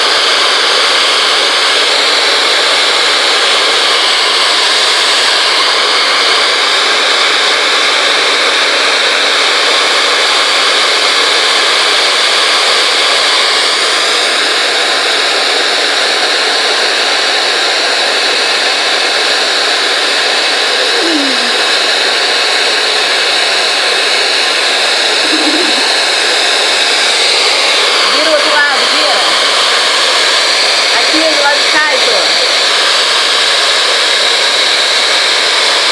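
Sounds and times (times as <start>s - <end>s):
hair dryer blowing air: 0.0s - 35.9s.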